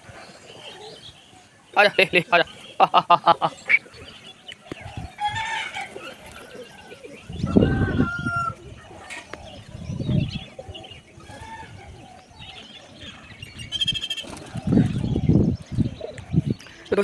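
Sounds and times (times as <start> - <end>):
pigeons cooing: 0.0 - 16.9.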